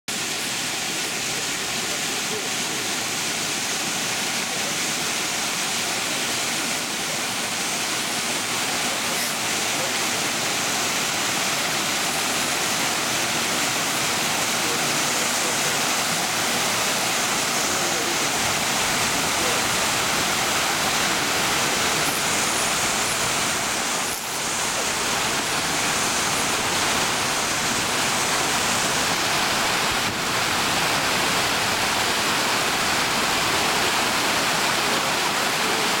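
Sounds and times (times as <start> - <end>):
waterfall rushing and splashing: 0.1 - 36.0.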